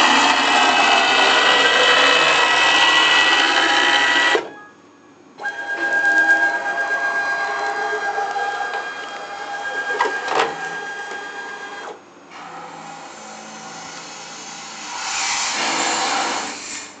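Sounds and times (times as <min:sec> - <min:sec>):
cnc router machine whine: 0:00.0 - 0:04.6, 0:05.4 - 0:16.7.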